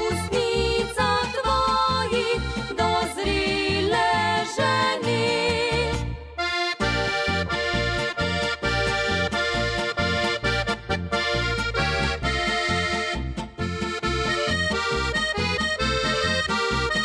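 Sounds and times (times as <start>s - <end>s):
accordion folk music: 0.0s - 17.0s.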